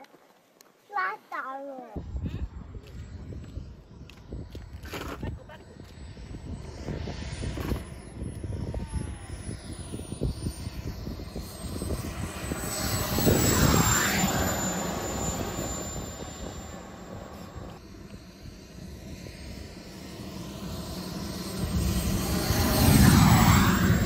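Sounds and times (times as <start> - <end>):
model jet engine whine: 2.0 - 24.0.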